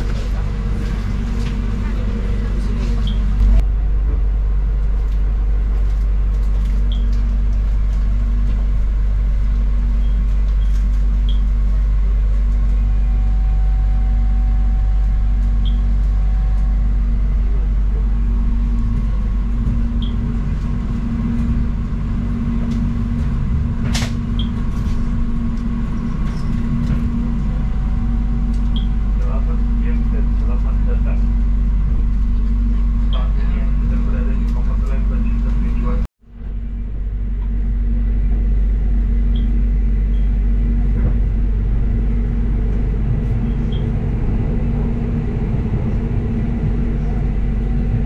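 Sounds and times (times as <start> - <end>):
train rumbling inside carriage: 0.0 - 48.0.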